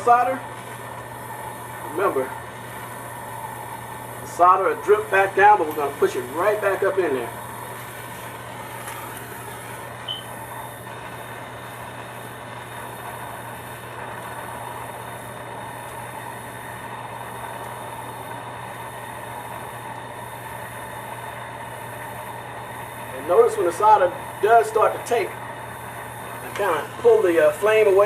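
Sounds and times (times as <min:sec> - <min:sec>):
torch flame hissing: 0:00.0 - 0:28.0.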